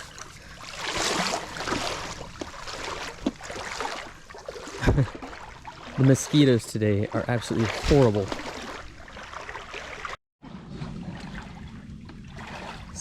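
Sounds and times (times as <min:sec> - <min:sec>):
footsteps wading through water: 0:00.0 - 0:13.0.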